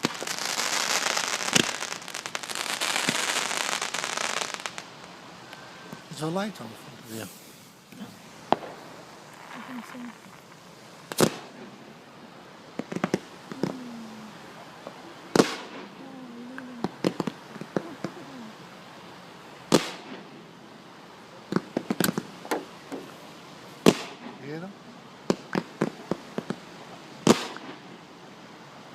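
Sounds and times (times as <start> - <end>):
fireworks bangs: 0.0 - 18.4, 19.7 - 20.4, 21.5 - 28.0
fireworks crackling pops: 0.0 - 18.4, 19.7 - 20.4, 21.4 - 28.0.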